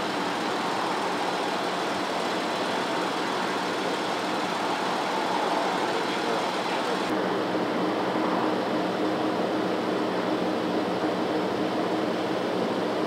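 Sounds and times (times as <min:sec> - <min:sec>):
car idling with heater hum: 0:00.0 - 0:13.0.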